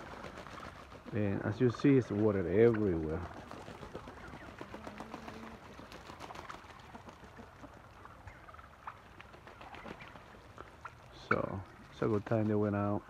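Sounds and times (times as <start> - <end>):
poultry calls: 0.0 - 13.0.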